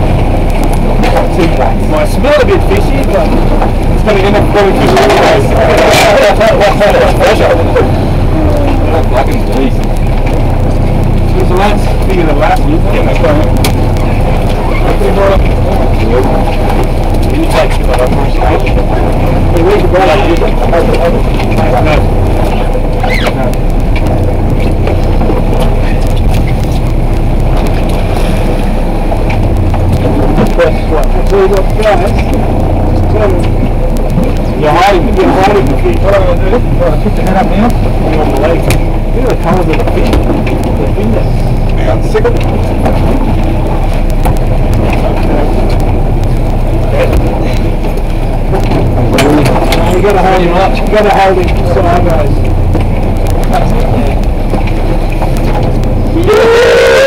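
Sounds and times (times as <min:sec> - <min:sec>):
boat engine low hum: 0:00.0 - 0:57.0
indistinct voices: 0:00.0 - 0:57.0
water noise: 0:00.0 - 0:57.0
wind: 0:00.0 - 0:57.0.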